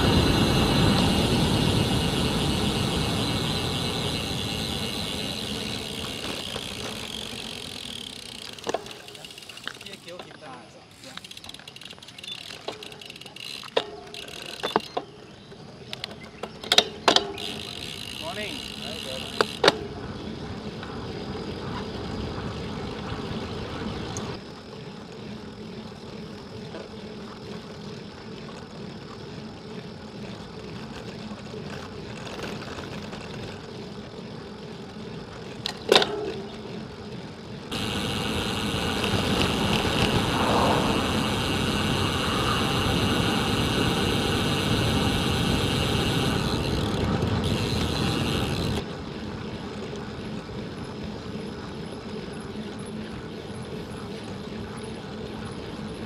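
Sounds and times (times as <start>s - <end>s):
wind and tyre noise: 0.0s - 56.0s.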